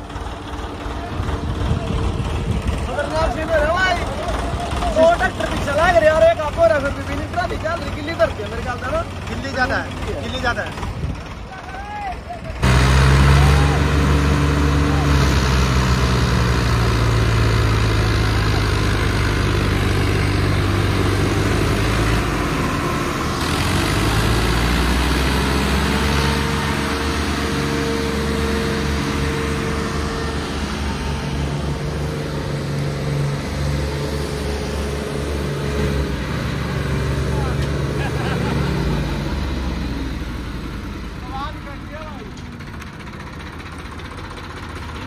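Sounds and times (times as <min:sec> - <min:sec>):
diesel tractor engines under load: 0:00.0 - 0:45.0.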